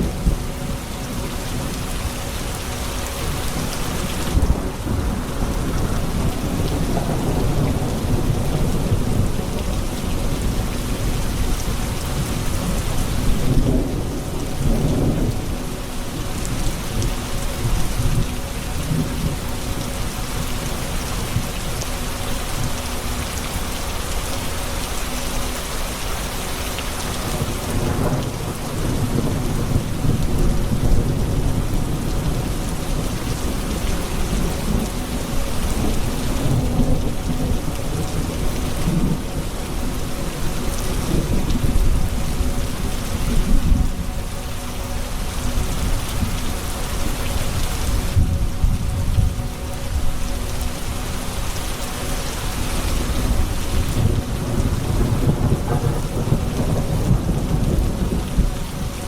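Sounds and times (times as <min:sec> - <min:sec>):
thunder rumbling: 0:00.0 - 0:21.5, 0:27.2 - 0:51.6, 0:52.3 - 0:59.0
heavy rain: 0:00.0 - 0:59.0.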